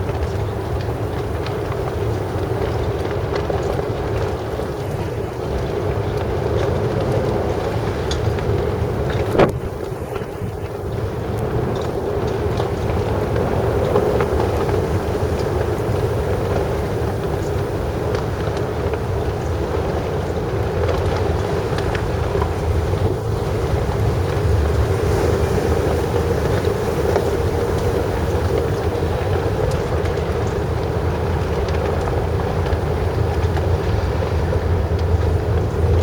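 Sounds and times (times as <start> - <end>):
wind blowing across microphone: 0.0 - 36.0
low rumble: 6.1 - 36.0.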